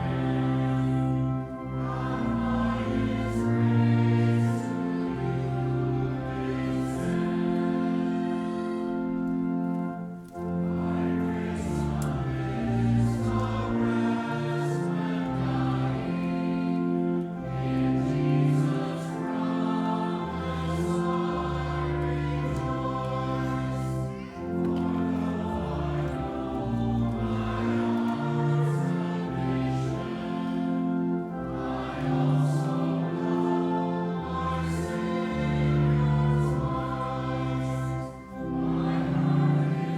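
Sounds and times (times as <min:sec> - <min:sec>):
choir singing sacred music: 0:00.0 - 0:39.9.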